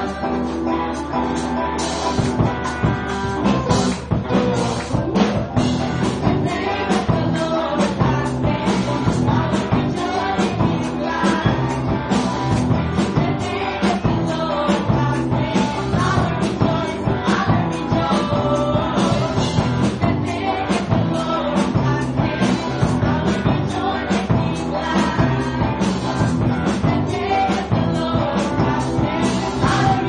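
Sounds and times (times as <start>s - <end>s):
people singing on microphones: 0.0s - 3.5s, 5.8s - 30.0s
live band playing: 0.0s - 30.0s.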